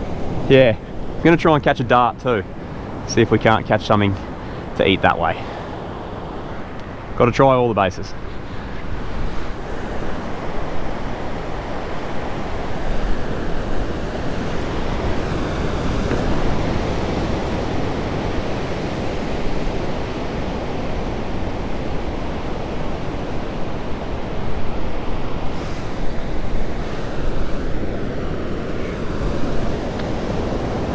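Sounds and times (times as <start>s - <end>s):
wind rumbling on microphone: 0.0s - 7.4s, 8.0s - 30.9s
ocean surf on beach: 0.0s - 30.9s.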